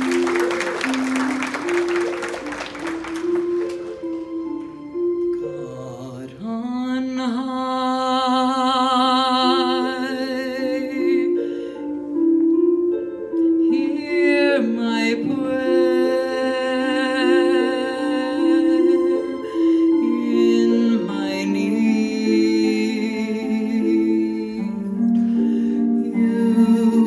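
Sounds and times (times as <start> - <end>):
slow choral music: 0.0 - 27.0.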